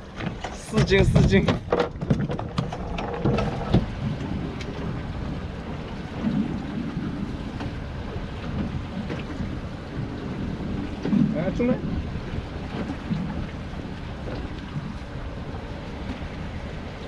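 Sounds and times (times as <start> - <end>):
sea washing around boat: 0.0 - 17.0
wind rumbling on microphone: 0.0 - 17.0.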